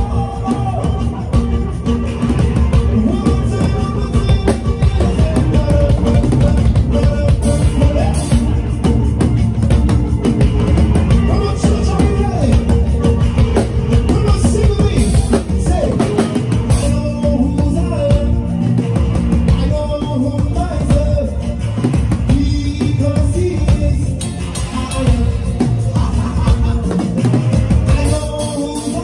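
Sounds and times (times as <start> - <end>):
live band playing upbeat groove: 0.0 - 29.0.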